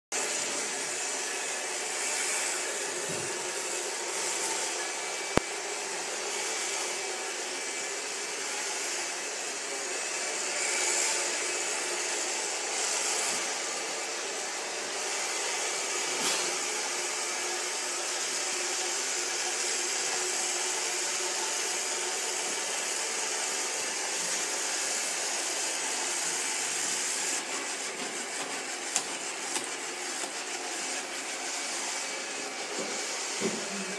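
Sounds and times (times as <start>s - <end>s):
robot vacuum whirring: 0.2s - 33.9s.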